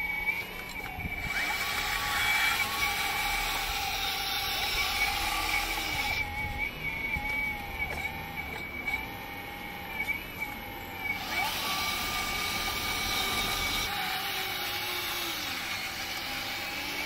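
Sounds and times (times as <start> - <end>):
hydraulic pump whining: 0.0 - 17.0.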